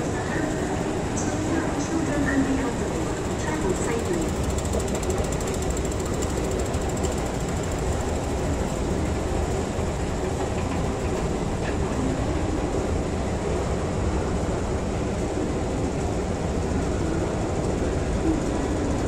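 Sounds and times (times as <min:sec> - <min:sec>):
machinery rumble and hum: 0:00.0 - 0:19.0.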